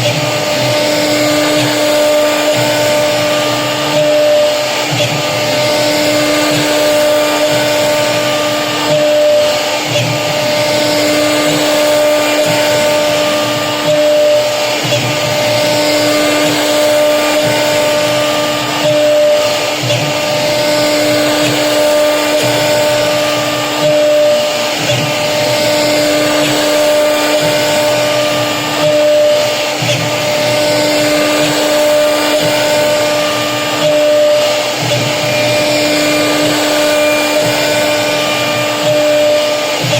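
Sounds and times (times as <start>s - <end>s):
router bit cutting board: 0.0s - 39.9s
router spindle whining: 0.0s - 39.9s.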